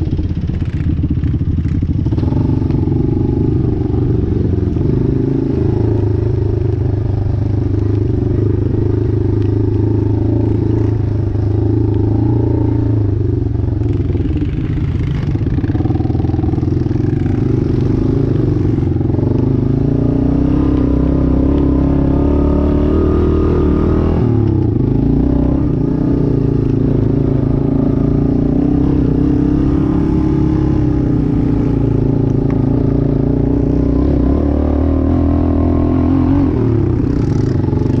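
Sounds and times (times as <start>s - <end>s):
atv engine running under load: 0.0s - 38.0s.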